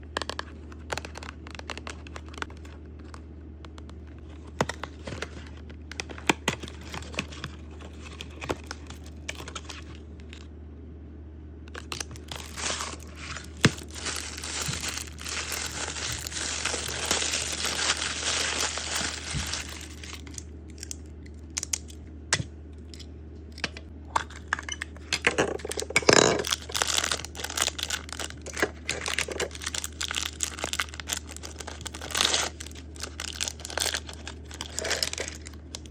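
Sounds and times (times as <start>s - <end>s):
packaging crinkling and tearing: 0.1s - 10.4s, 11.7s - 21.0s, 25.3s - 35.9s.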